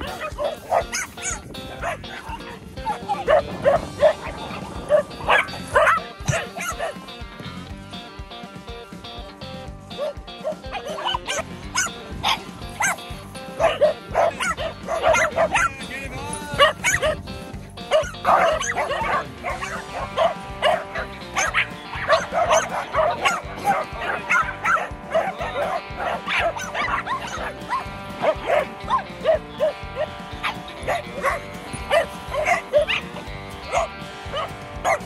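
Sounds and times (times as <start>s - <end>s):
small dogs barking and yapping: 0.0s - 7.2s, 9.9s - 35.0s
background music: 0.0s - 35.0s.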